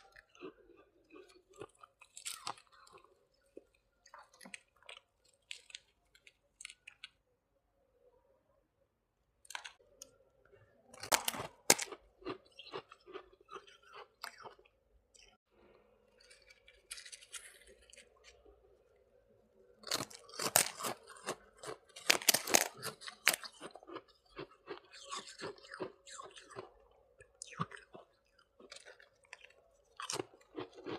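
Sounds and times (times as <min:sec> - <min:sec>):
crunching and chewing ice: 0:00.0 - 0:07.2, 0:11.0 - 0:15.4, 0:16.1 - 0:18.6, 0:19.8 - 0:30.9.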